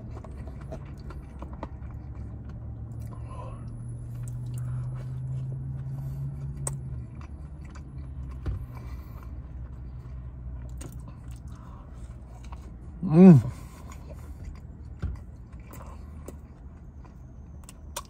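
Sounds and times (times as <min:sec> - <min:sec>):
chewing and biting sandwich: 0:00.0 - 0:18.0
low steady hum: 0:00.0 - 0:18.0.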